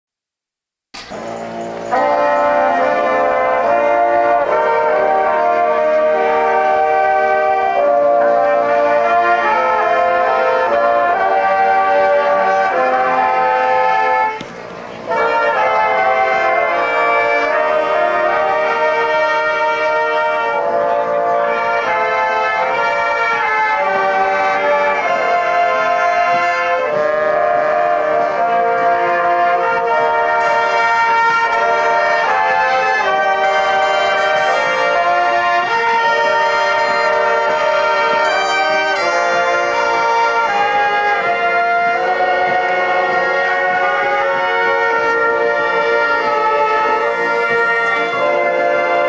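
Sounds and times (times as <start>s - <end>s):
brass band playing sustained chords: 1.0s - 49.0s.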